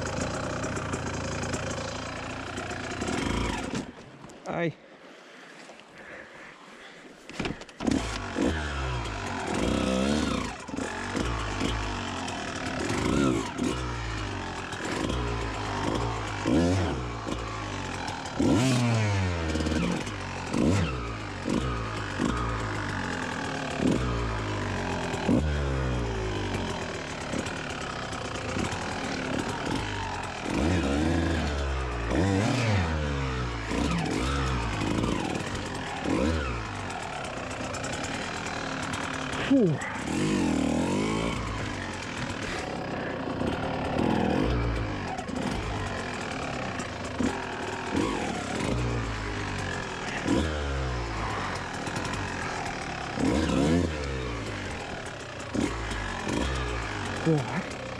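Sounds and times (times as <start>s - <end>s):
dirt bike engine revving: 0.0s - 4.0s, 7.5s - 57.9s.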